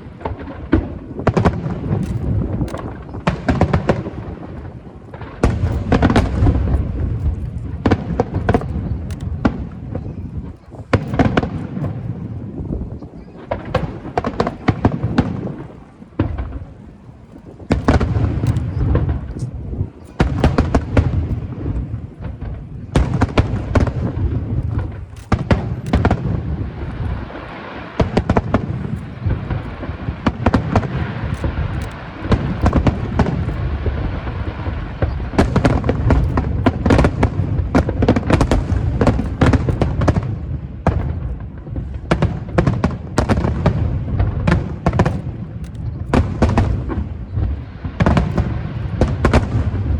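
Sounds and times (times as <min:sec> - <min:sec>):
fireworks crackling: 0:00.0 - 0:49.9
fireworks sharp bangs: 0:00.0 - 0:49.9
low fireworks booms: 0:00.0 - 0:49.9.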